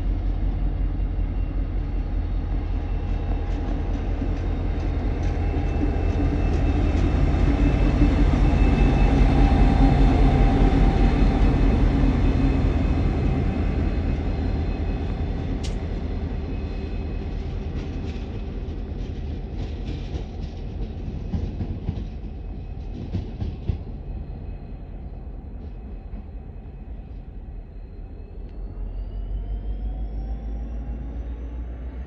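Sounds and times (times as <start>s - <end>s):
diesel locomotive engine running: 0.0s - 32.0s.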